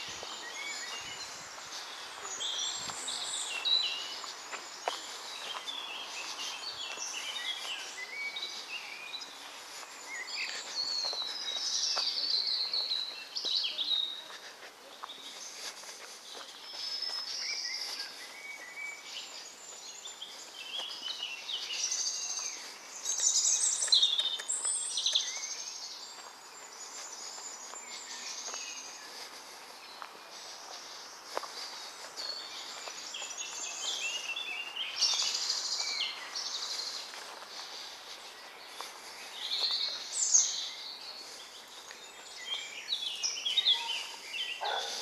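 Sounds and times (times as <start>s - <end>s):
songbirds singing: 0.0s - 45.0s.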